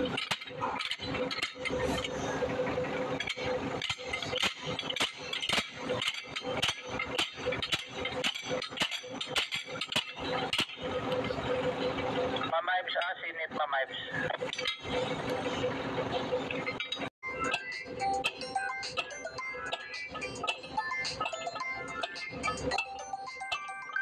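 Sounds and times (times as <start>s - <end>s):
steady hum: 0.0s - 23.4s.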